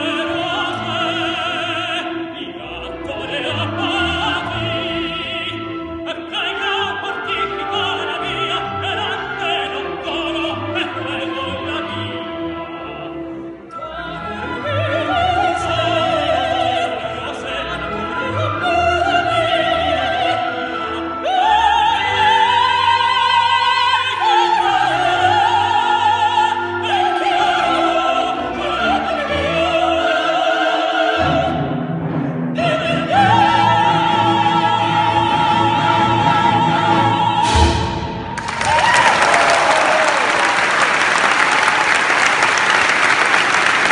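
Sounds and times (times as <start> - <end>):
operatic duet singing: 0.0 - 40.3
orchestra: 0.0 - 43.9.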